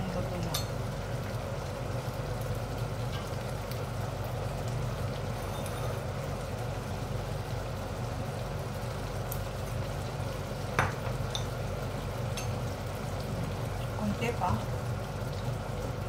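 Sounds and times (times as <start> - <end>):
food bubbling in a wok: 0.0 - 16.0.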